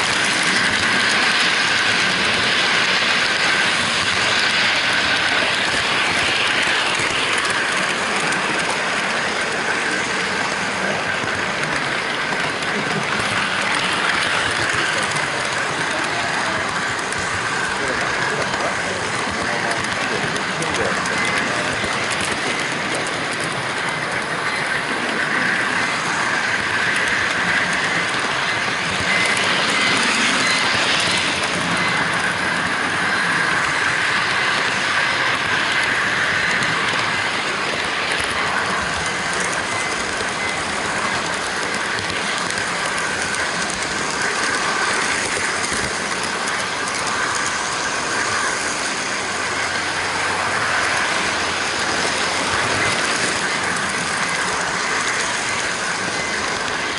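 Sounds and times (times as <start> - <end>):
model train wheels rumbling: 0.0 - 56.9.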